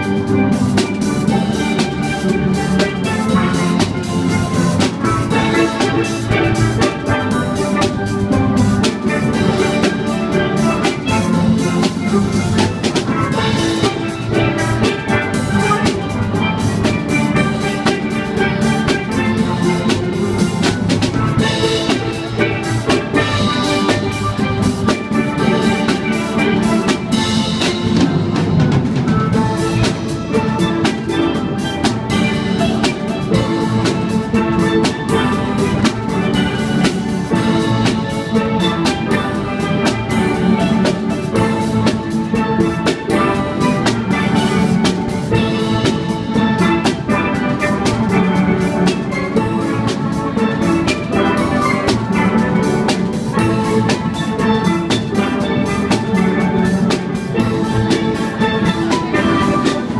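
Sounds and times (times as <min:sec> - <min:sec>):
drums keeping the beat: 0:00.0 - 0:59.9
steel pan band playing: 0:00.0 - 0:59.9.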